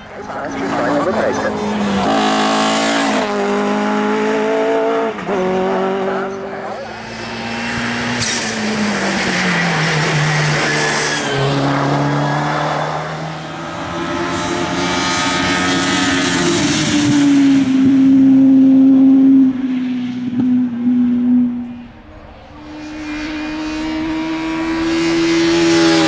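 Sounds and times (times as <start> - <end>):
race car engine at full throttle: 0.0 - 26.0.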